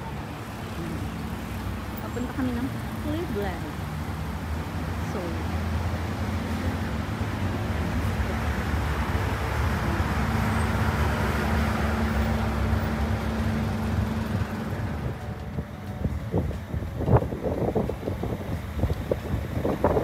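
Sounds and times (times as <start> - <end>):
road traffic passing: 0.0 - 20.0
vehicle engine hum: 0.0 - 20.0.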